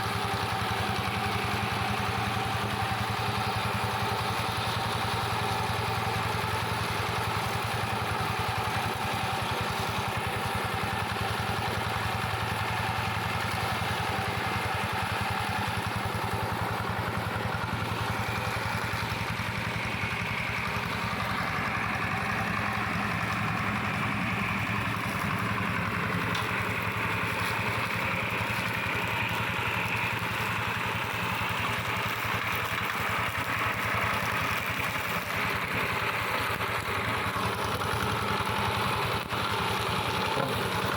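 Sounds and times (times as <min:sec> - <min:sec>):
tractor engine clattering: 0:00.1 - 0:40.9.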